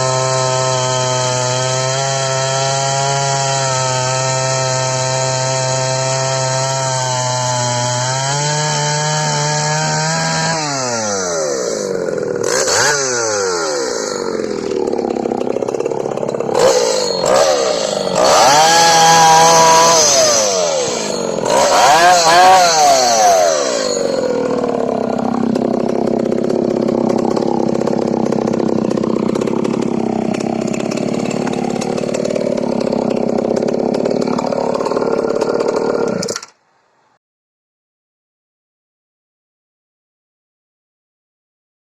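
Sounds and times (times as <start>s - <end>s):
chainsaw revving: 0.0s - 36.5s.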